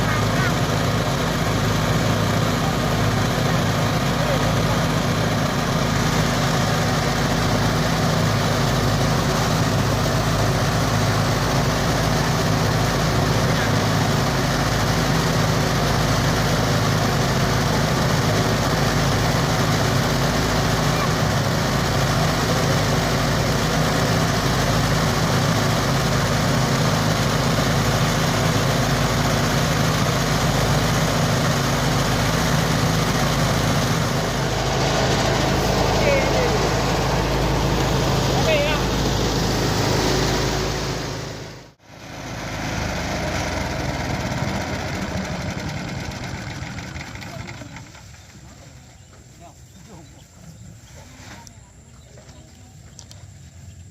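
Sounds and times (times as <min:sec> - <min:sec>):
threshing machine engine running: 0:00.0 - 0:49.4.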